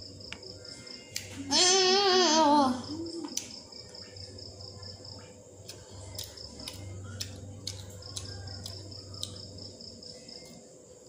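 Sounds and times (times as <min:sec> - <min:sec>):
cricket chirping: 0:00.0 - 0:11.0
steady low hum: 0:00.0 - 0:11.0.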